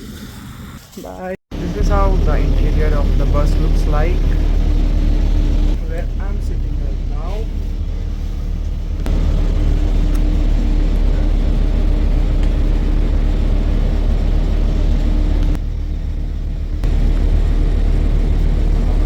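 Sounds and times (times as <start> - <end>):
bus engine and road rumble: 1.5 - 19.0
faint hum: 1.5 - 19.0.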